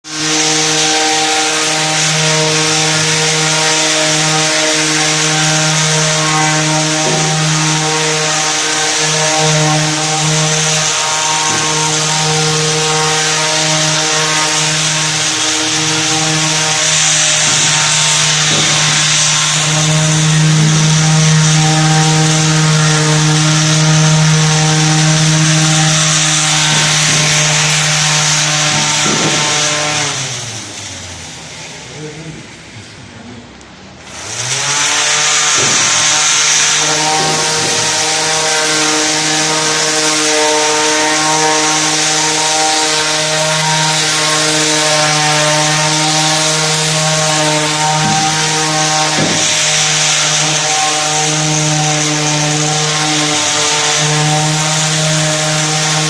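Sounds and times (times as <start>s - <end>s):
electric sander on wood: 0.0s - 32.3s, 34.0s - 56.0s.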